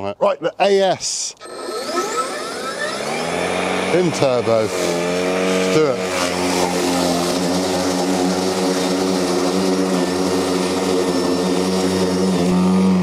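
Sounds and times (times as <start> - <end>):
electric mower blade whine: 1.4 - 13.0.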